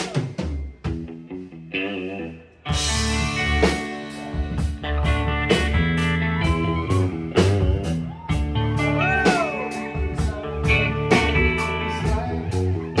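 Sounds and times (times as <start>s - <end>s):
drums: 0.0s - 13.0s
electric guitars: 0.0s - 13.0s.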